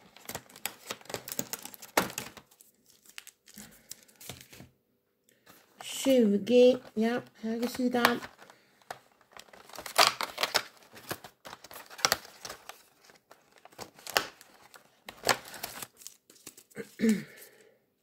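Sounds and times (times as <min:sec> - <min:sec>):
cardboard and foil crinkling: 0:00.0 - 0:04.6, 0:05.5 - 0:17.7.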